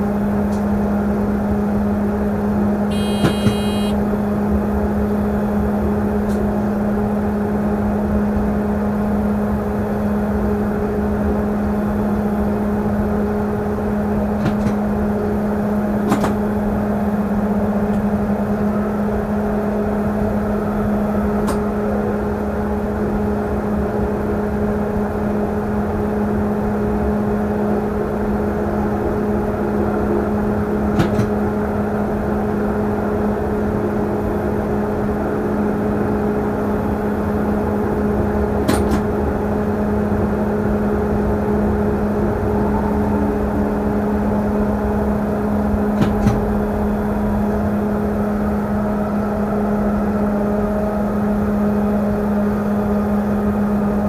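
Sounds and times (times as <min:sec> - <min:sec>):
electric train running hum: 0:00.0 - 0:54.0.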